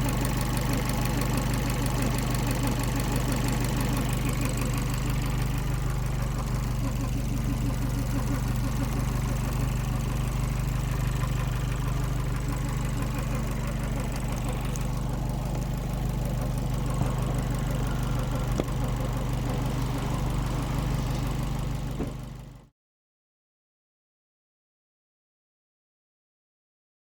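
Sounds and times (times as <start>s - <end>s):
car engine idling: 0.0s - 22.7s.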